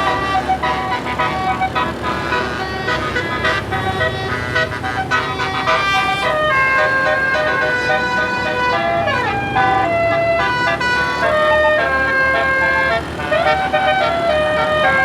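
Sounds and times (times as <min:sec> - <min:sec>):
musical air horn melody: 0:00.0 - 0:15.0.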